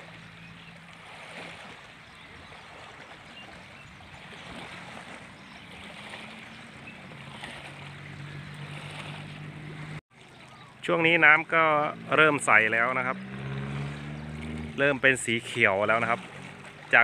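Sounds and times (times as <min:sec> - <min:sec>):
waves lapping at shore: 0:00.0 - 0:17.0.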